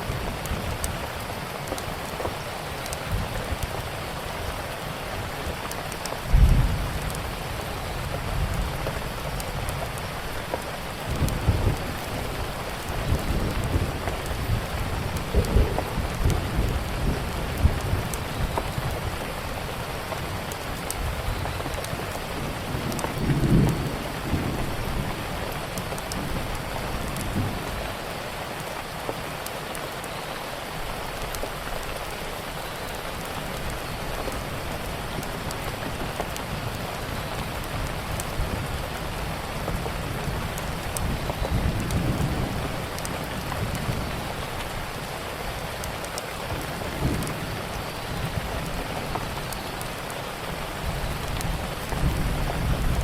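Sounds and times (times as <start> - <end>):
wood fire crackling: 0.0 - 30.0, 30.8 - 53.0
heavy rain: 0.0 - 53.0.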